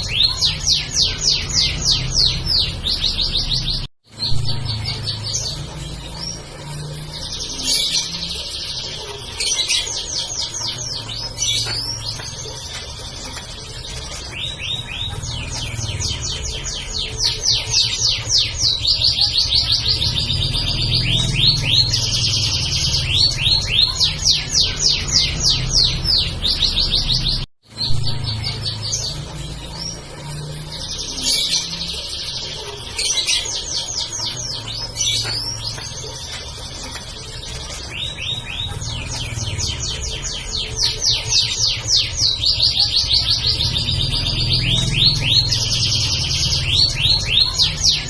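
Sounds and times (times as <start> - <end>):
canary singing in trills: 0.0 - 48.0.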